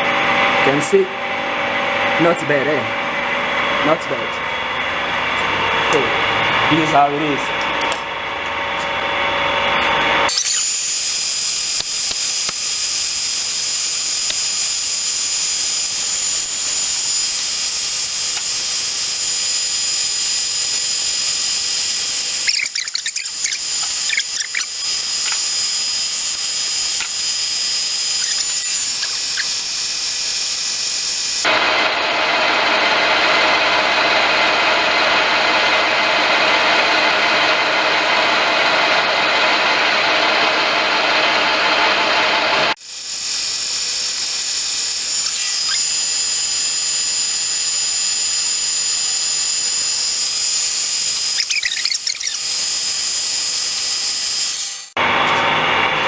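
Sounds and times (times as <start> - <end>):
lathe high-pitched whine: 10.2 - 55.1.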